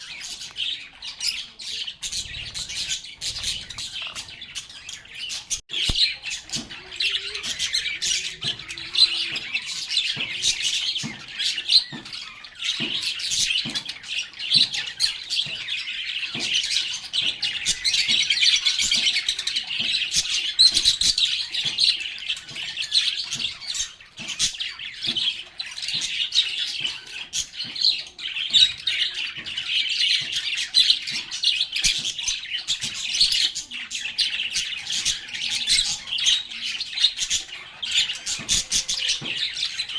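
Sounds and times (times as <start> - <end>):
lovebirds chattering and chirping: 0.0 - 39.9.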